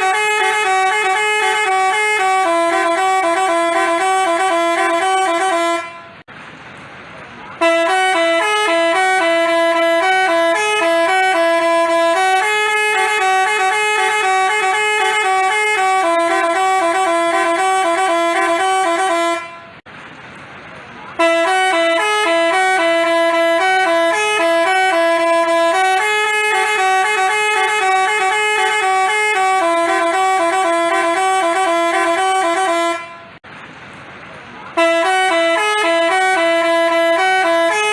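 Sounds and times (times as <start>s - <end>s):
multi-tone horn melody: 0.0s - 6.3s, 7.6s - 19.8s, 21.2s - 33.4s, 34.8s - 37.9s.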